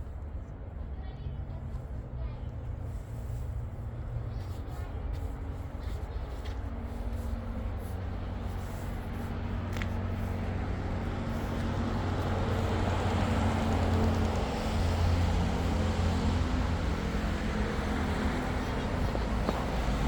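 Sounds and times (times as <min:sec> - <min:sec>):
vehicle engine and tyre noise: 0:00.0 - 0:20.0.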